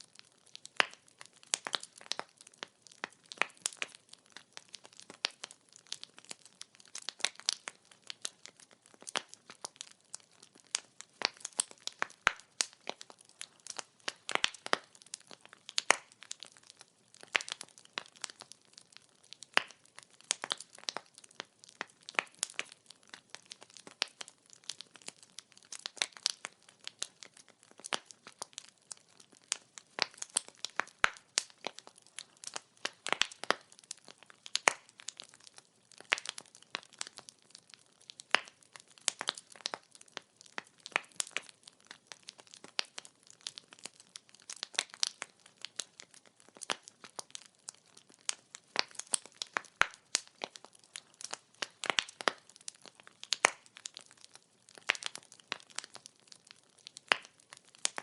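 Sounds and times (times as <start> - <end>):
faint hiss of burning: 0.0 - 58.0
firewood snapping and popping: 0.1 - 58.0.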